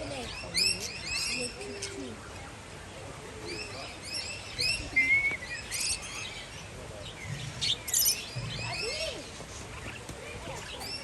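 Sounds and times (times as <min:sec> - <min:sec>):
parrots chirping and chattering: 0:00.0 - 0:02.2, 0:03.5 - 0:11.0.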